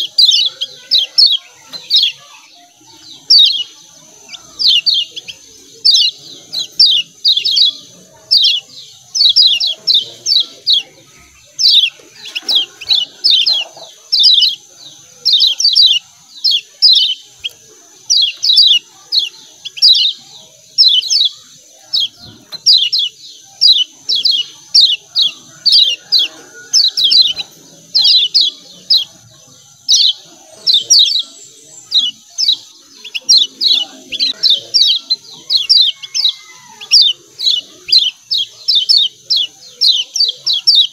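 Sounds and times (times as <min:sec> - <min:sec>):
bird chatter calls: 0:00.0 - 0:40.9.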